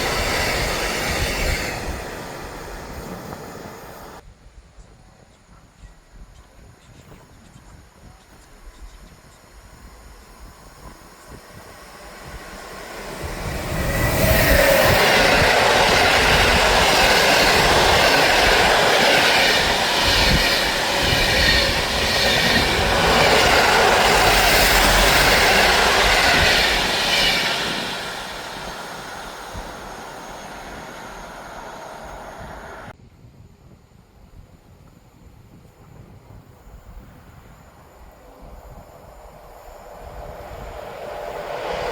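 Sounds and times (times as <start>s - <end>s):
train passing at speed: 0.0s - 4.2s, 8.4s - 33.0s, 35.7s - 41.9s.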